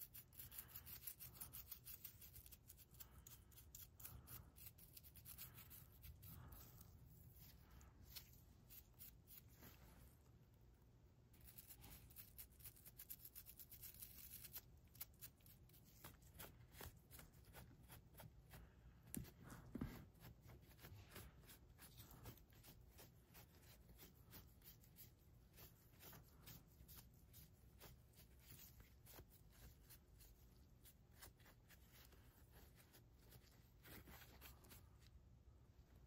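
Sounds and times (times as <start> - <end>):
soft rustling: 0.3 - 36.0.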